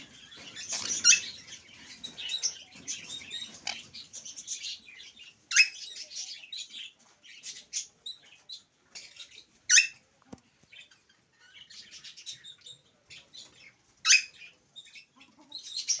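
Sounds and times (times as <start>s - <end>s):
parakeet chirping and chattering: 0.0s - 10.0s, 10.6s - 16.0s.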